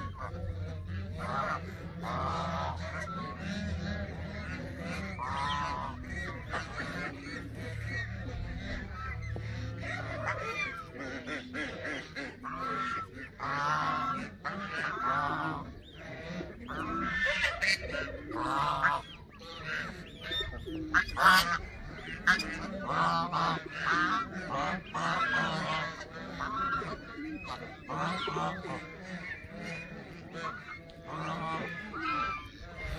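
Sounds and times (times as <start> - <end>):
geese honking: 0.0 - 32.9.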